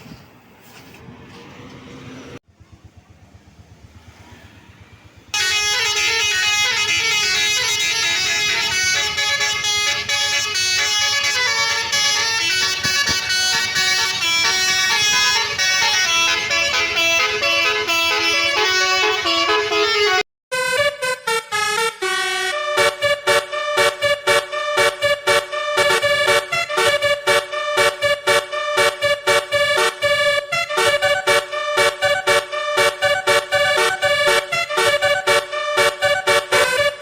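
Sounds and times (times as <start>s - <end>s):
multi-note air horn melody: 5.3s - 37.0s.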